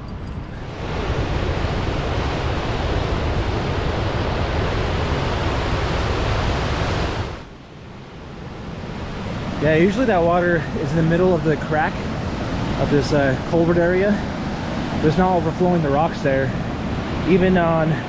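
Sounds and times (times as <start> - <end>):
creek water rushing: 0.7 - 18.0.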